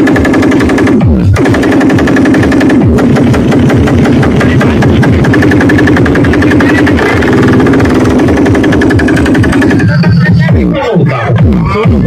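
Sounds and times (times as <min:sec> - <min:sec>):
fast electronic beat: 0:00.0 - 0:12.0.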